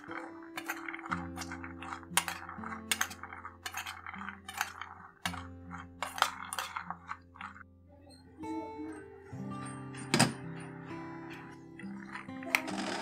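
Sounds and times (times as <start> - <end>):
metal spoon scraping steel bowl: 0.0 - 7.7, 9.4 - 13.0
soft background music: 0.0 - 13.0.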